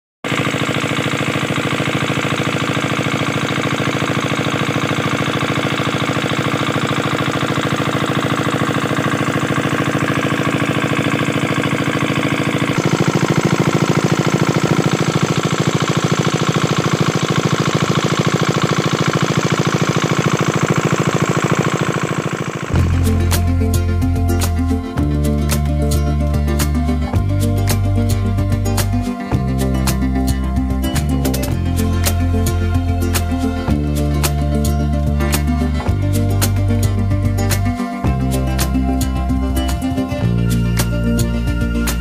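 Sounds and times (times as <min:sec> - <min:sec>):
diesel engine running: 0:00.2 - 0:42.0.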